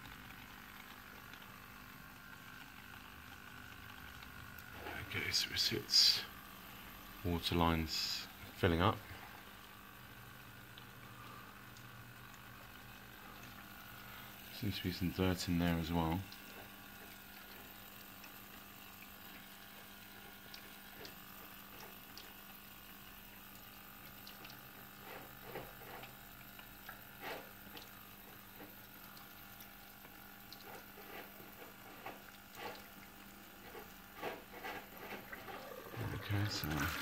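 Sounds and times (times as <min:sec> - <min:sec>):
small ticks and drips: 0:00.0 - 0:37.0
water running into a tank: 0:00.0 - 0:37.0
dishwasher low hum: 0:02.2 - 0:37.0.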